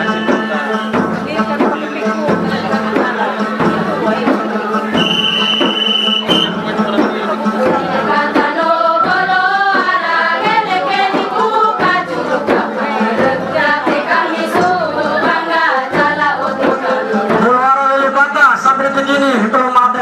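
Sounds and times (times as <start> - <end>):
group singing folk song: 0.0 - 18.1.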